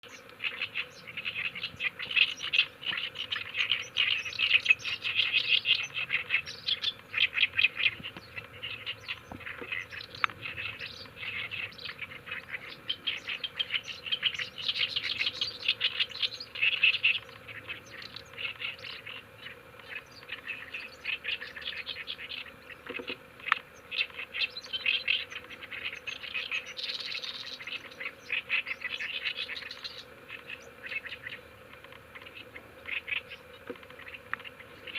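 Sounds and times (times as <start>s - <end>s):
bird singing harsh chattering: 0.0s - 34.9s.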